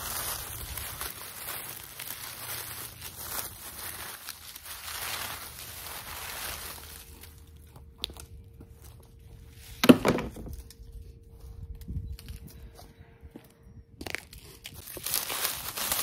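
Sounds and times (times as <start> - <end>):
dry leaves rustling: 0.0 - 12.4, 14.0 - 16.0.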